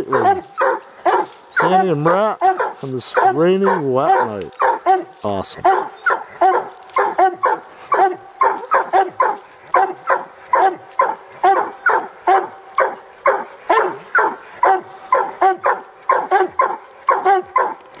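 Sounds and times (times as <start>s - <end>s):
hounds barking rapidly: 0.0s - 17.9s.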